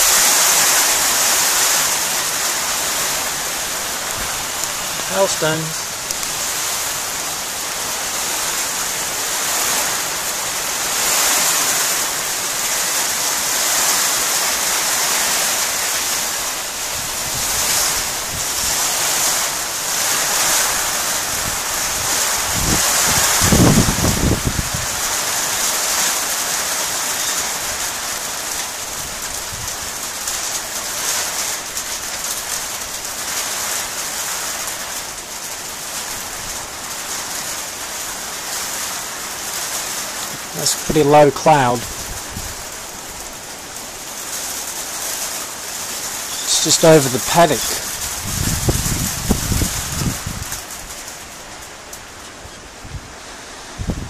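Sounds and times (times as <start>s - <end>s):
hail falling on concrete: 0.0s - 52.4s.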